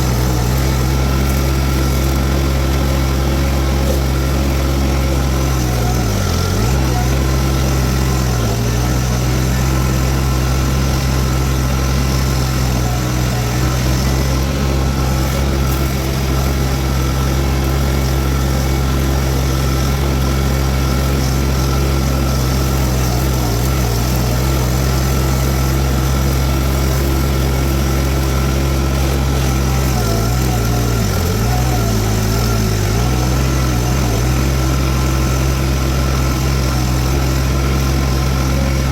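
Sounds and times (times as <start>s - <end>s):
diesel engine at high throttle: 0.0s - 38.9s.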